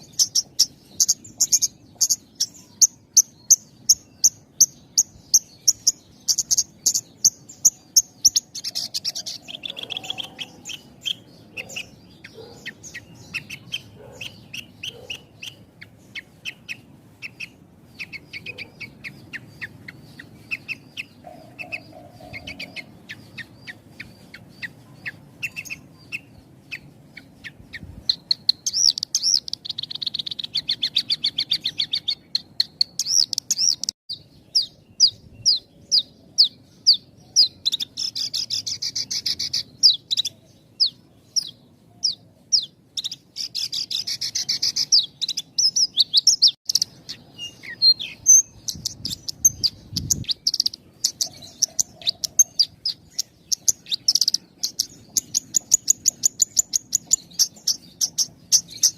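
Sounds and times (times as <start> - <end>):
lark singing chirping notes: 0.0 - 58.9.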